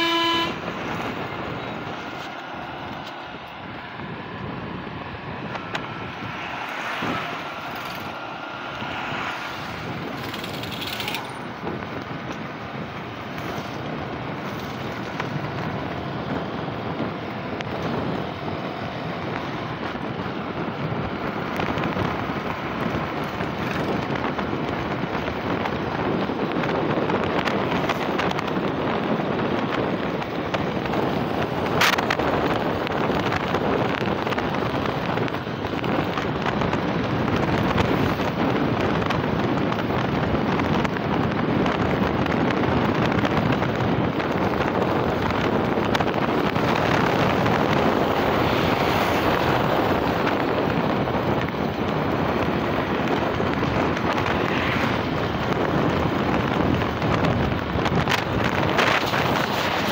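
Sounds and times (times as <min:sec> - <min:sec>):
motorcycle running and tyre noise: 0:00.0 - 0:59.9
wind buffeting microphone: 0:00.0 - 0:59.9.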